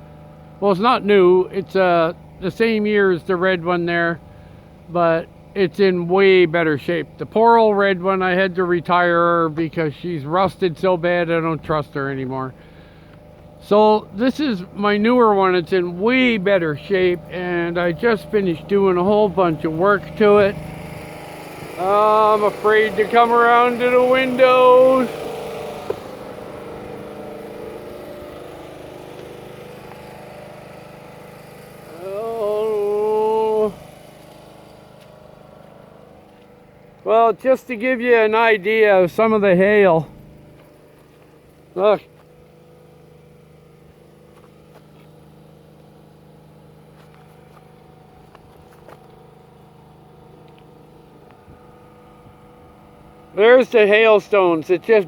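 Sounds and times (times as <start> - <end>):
engine idling hum: 0.0 - 55.0.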